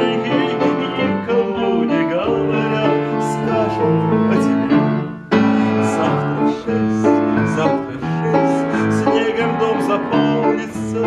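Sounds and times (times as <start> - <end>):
upright piano playing: 0.0 - 11.0.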